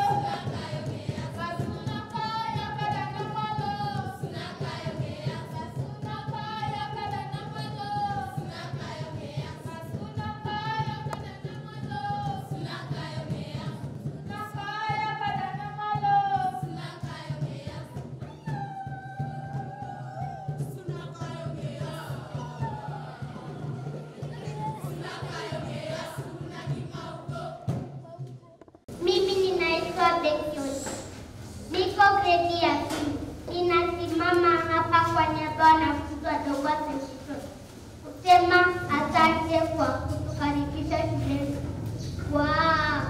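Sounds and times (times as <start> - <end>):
girls singing together: 0.0 - 28.2, 31.6 - 43.0.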